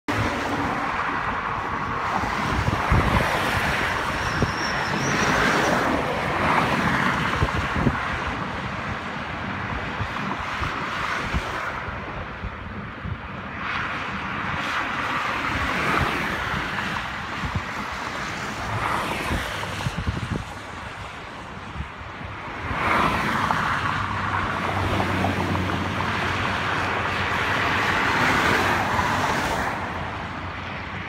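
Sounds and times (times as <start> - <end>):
traffic tyres hissing on road: 0.1 - 31.0
wind buffeting microphone: 0.1 - 31.0.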